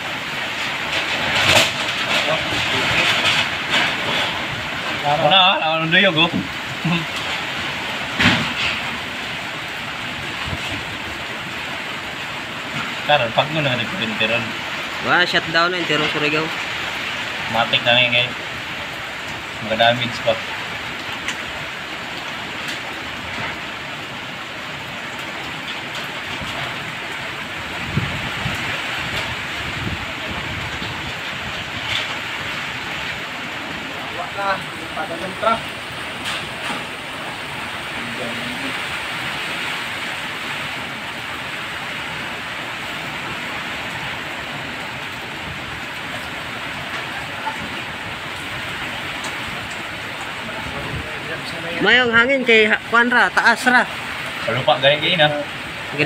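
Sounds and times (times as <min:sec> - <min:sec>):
low rumbling gust: 0:00.0 - 0:54.8
heavy rain and wind: 0:00.0 - 0:56.0.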